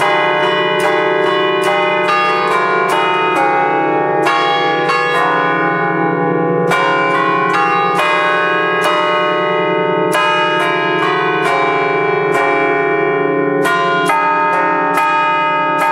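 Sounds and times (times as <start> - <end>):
church bells playing a tune: 0.0 - 15.9.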